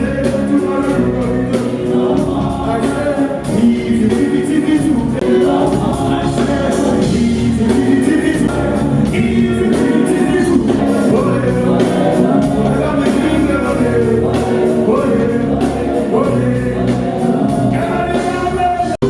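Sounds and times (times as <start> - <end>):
live band music: 0.0 - 19.0
men singing: 0.0 - 19.0.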